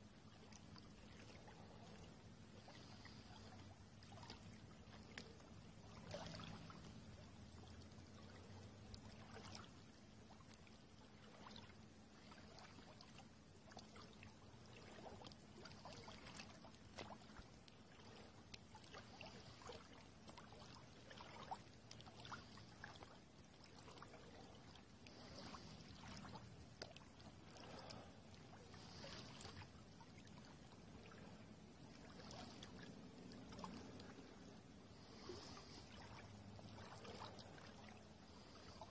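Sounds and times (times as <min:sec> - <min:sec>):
river water trickling and lapping: 0:00.0 - 0:38.9
small splashes and crackles: 0:00.0 - 0:38.9.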